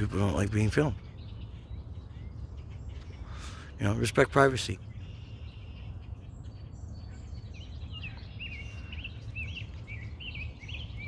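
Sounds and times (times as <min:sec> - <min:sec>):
songbird singing whistled notes: 0:00.0 - 0:11.0.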